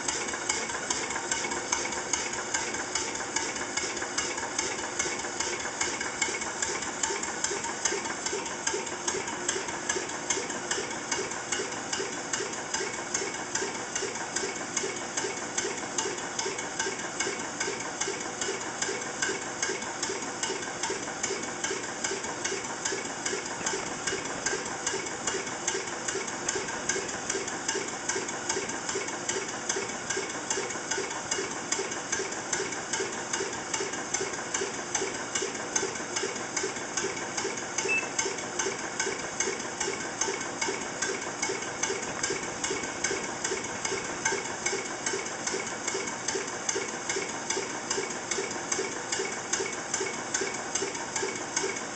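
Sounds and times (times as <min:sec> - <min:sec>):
steam engine running: 0:00.0 - 0:51.7.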